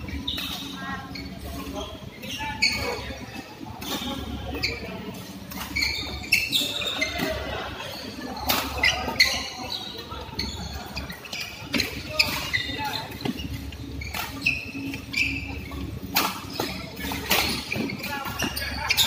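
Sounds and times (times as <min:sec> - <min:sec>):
shoes squeaking on court: 0:00.0 - 0:19.0.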